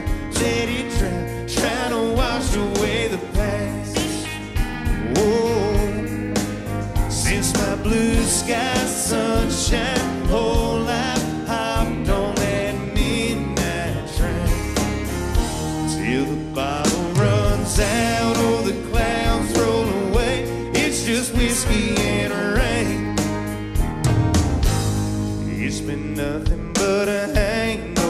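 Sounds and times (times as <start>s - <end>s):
man singing: 0.0s - 15.1s, 15.7s - 23.3s, 25.4s - 28.0s
country band playing: 0.0s - 28.0s
drums: 0.0s - 28.0s
electric guitar: 0.0s - 28.0s.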